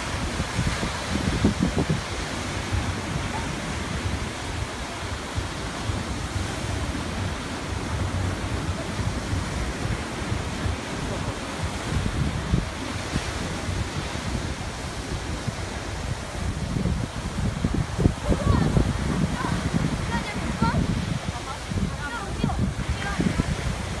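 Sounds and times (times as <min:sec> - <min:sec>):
surf washing onto beach: 0:00.0 - 0:24.0
wind buffeting microphone: 0:00.0 - 0:24.0.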